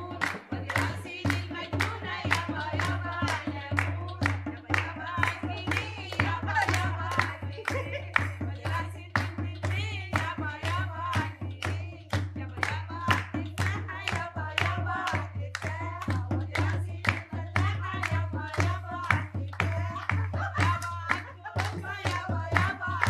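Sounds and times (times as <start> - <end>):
hand drum beating: 0.0 - 23.0
people clapping: 0.0 - 23.0
woman singing: 0.0 - 23.0.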